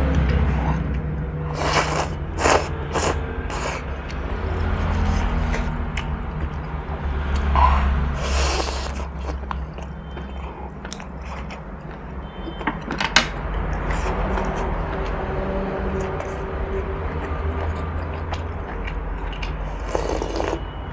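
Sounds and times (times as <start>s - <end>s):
person chewing food: 0.1s - 20.8s.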